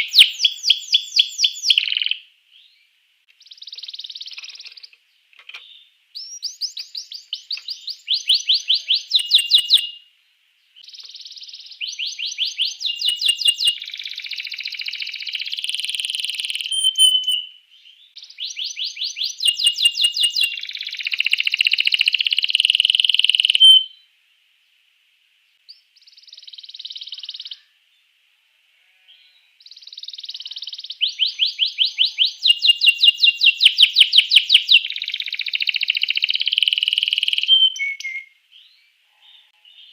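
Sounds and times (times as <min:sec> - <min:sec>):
canary singing trills: 0:00.0 - 0:02.7, 0:03.4 - 0:10.1, 0:10.8 - 0:24.1, 0:25.7 - 0:27.8, 0:28.8 - 0:39.9.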